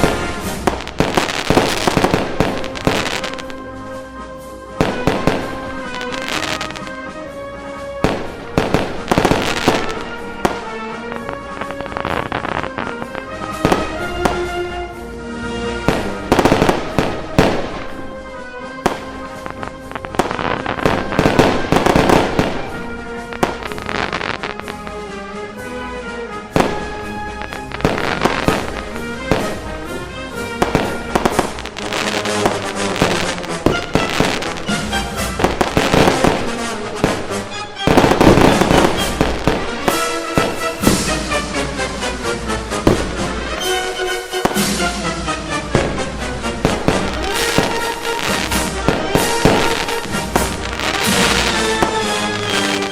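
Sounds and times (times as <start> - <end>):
background music: 0.0 - 52.9
fireworks crackling and banging: 0.0 - 52.9.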